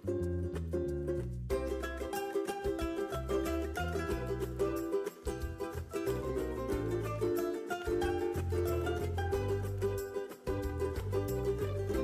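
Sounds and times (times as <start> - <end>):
bass line: 0.0 - 12.0
plucked-string notes: 0.0 - 12.0.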